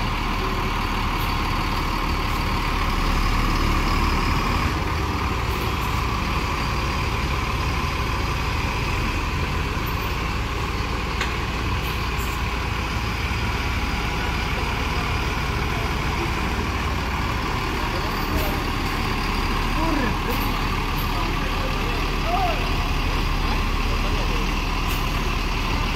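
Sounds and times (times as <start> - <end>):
diesel bus engine droning: 0.0 - 25.9.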